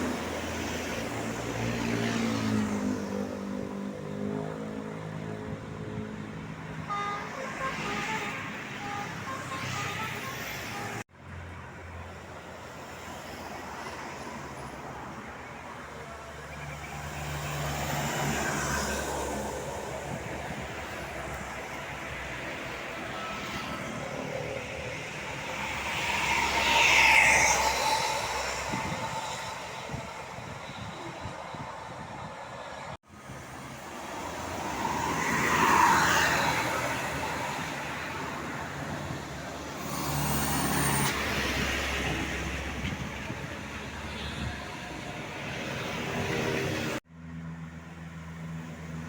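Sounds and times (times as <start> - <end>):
road vehicle passing by: 0.0 - 6.6, 7.3 - 49.0.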